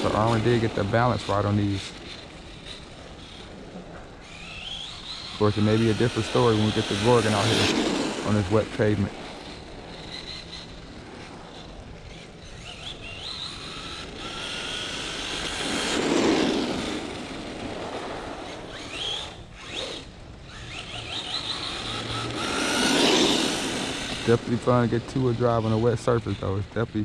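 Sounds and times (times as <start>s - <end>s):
electric motor whining: 0.0s - 27.0s.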